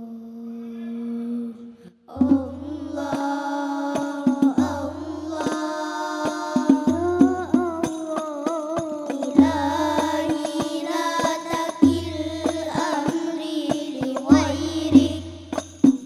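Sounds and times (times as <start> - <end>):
children singing together: 2.1 - 15.9
frame drums: 2.2 - 16.0.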